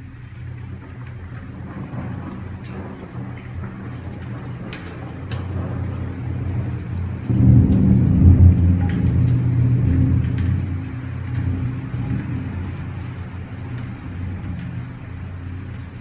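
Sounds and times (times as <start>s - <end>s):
steady low hum: 0.0s - 16.0s
thunder rumbling: 0.0s - 16.0s.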